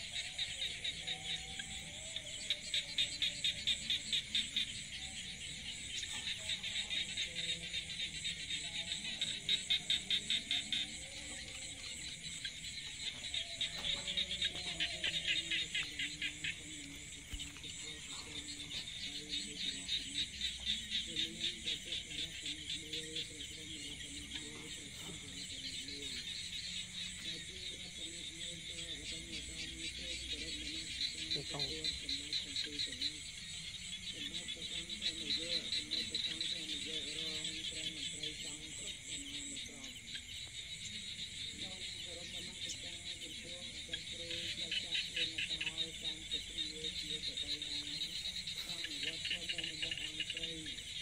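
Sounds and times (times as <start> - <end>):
insects calling in pulses: 0.0 - 51.0.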